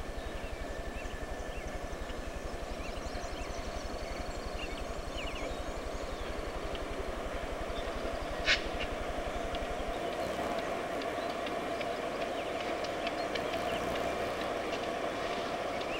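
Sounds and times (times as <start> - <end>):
rapid throbbing rumble: 0.0 - 15.9
songbirds chirping: 0.0 - 15.9.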